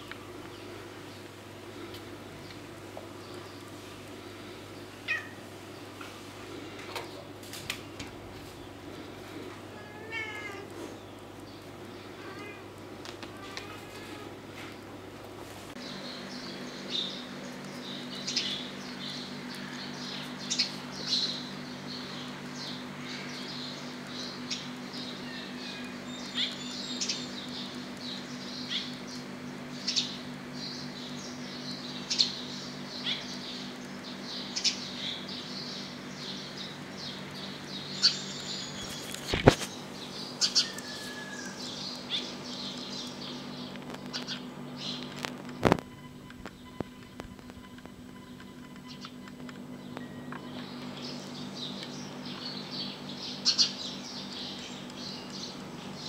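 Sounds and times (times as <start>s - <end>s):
small birds chirping: 0.0s - 14.8s, 15.7s - 56.0s
steady low hum: 0.0s - 56.0s.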